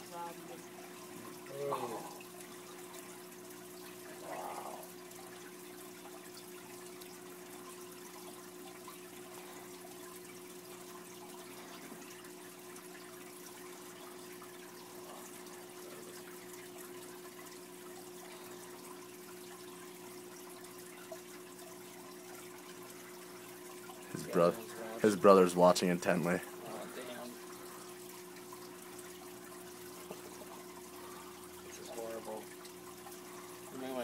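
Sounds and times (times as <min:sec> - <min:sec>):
aquarium water bubbling: 0:00.0 - 0:34.0.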